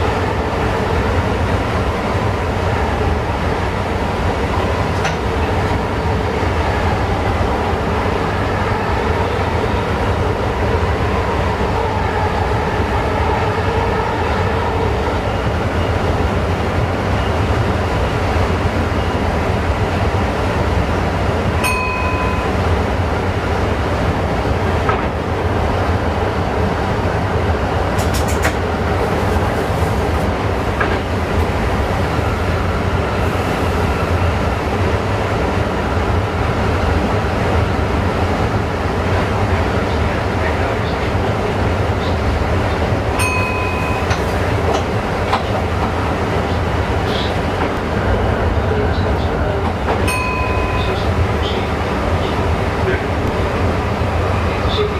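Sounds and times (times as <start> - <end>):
train wheels rumbling: 0.0 - 54.9.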